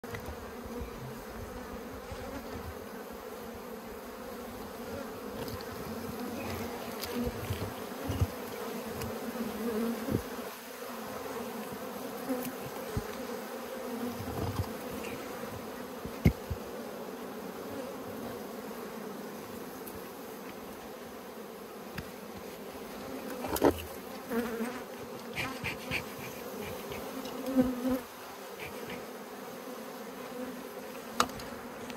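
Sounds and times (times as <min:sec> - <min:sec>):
bees buzzing: 0:00.0 - 0:31.9.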